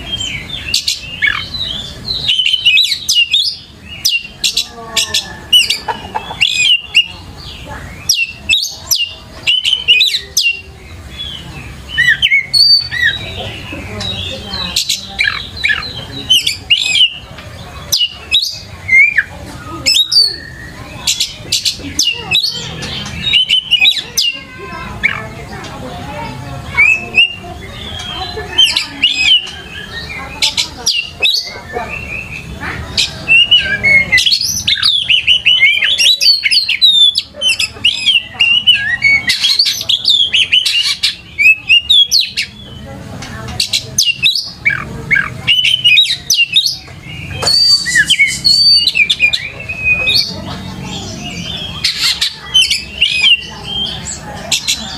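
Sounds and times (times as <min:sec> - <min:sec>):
bird singing loud whistled notes: 0:00.0 - 0:25.2, 0:26.7 - 0:42.9, 0:43.6 - 0:54.9.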